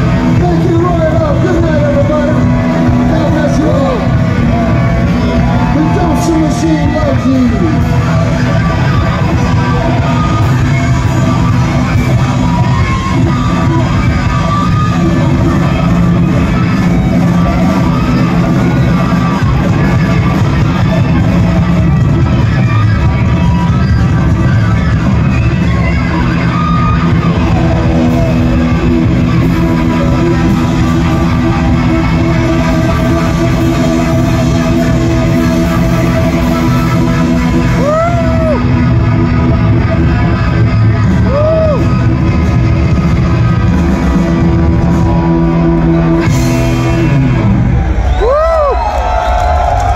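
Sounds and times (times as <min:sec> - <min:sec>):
bass guitar: 0:00.0 - 0:49.9
drums: 0:00.0 - 0:49.9
electric guitars: 0:00.0 - 0:49.9
live rock band playing: 0:00.0 - 0:49.9.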